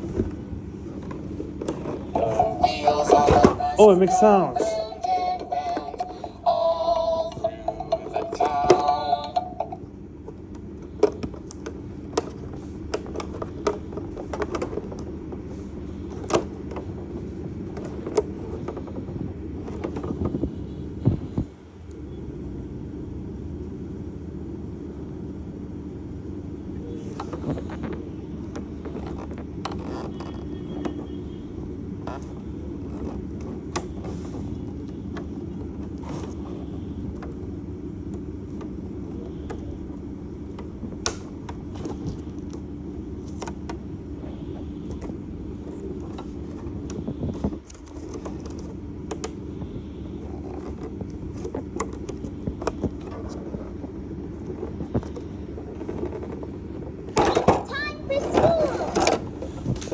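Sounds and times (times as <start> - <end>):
plastic toy and packaging rustling: 0.0 - 20.6, 26.8 - 59.9
steady low hum: 0.0 - 59.9.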